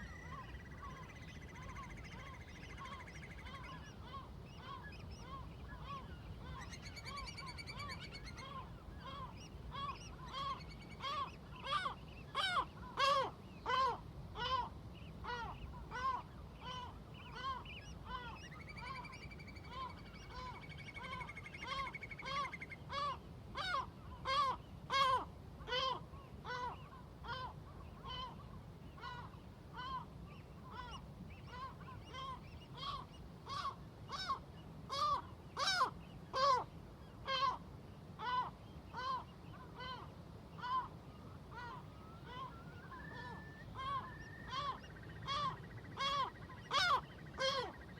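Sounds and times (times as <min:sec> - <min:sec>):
seagulls calling: 0:00.0 - 0:37.6, 0:38.2 - 0:47.9.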